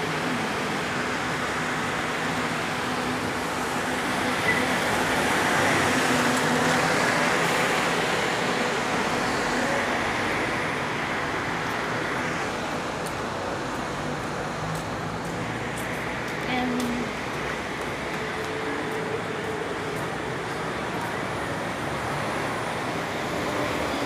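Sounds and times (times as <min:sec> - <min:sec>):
city street traffic noise: 0:00.0 - 0:24.0.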